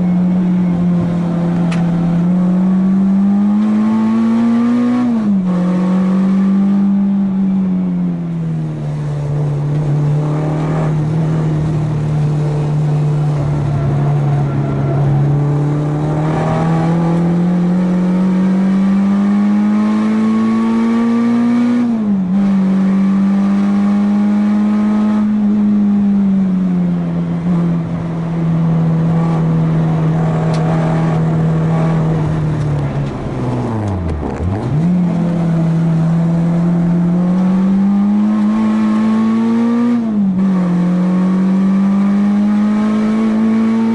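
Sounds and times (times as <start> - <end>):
car engine revving high: 0.0 - 43.9.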